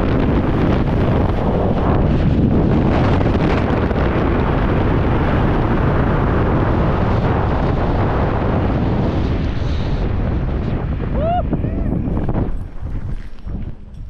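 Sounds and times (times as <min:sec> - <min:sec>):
loud wind buffeting microphone: 0:00.0 - 0:14.0.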